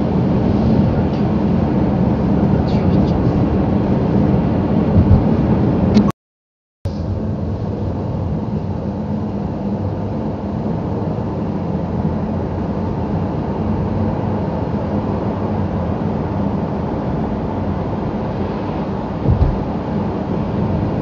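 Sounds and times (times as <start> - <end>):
car engine and tyre noise: 0.0 - 6.1, 6.9 - 21.0.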